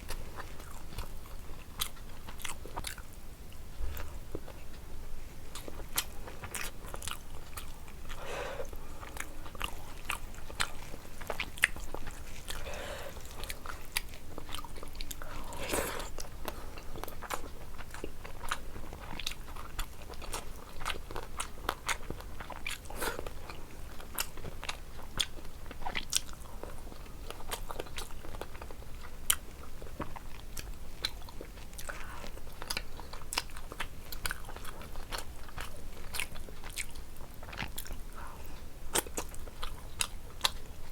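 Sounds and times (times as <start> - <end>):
chewing and biting food: 0.0 - 4.8, 5.5 - 40.9.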